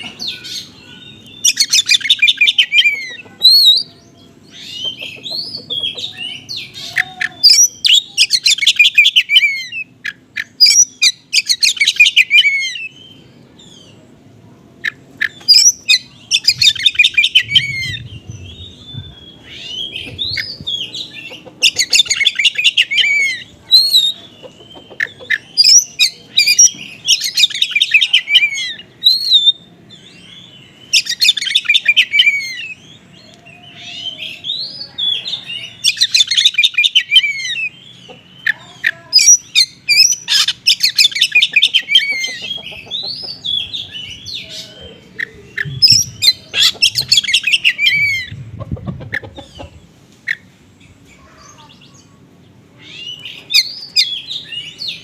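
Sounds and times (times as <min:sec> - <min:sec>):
bird singing trills and whistles: 0:00.0 - 0:14.0, 0:14.8 - 0:48.4, 0:52.8 - 0:55.0.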